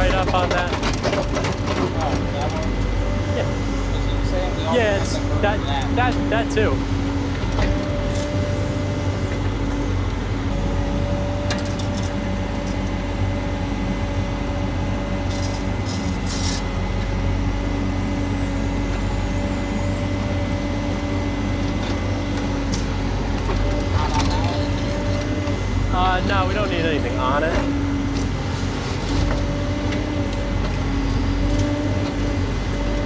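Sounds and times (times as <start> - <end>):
heavy equipment engine running: 0.0 - 33.0.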